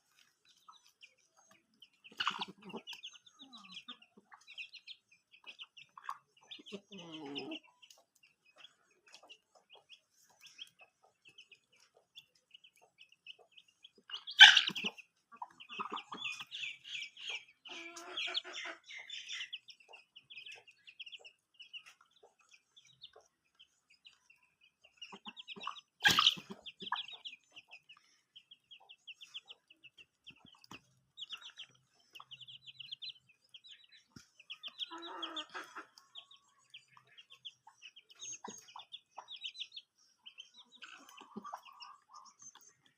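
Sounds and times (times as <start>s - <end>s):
chicks peeping: 0.0s - 42.9s
hen clucking: 0.2s - 42.9s.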